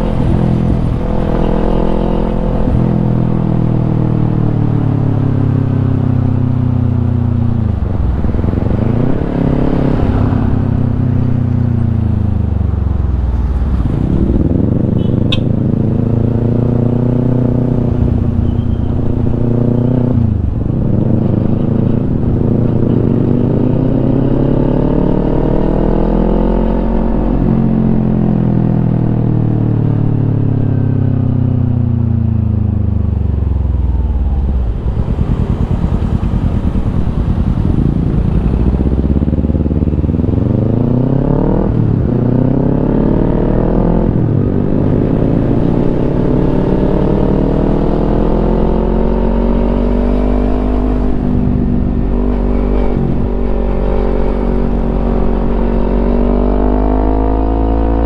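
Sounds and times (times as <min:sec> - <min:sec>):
motorcycle engine shifting gears: 0:00.0 - 0:28.1, 0:30.6 - 0:58.0.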